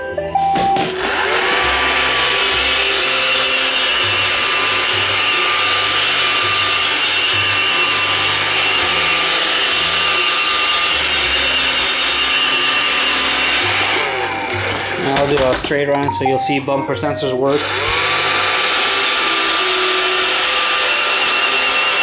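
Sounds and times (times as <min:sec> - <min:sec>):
robot vacuum whirring: 0:00.4 - 0:15.4, 0:17.5 - 0:22.0.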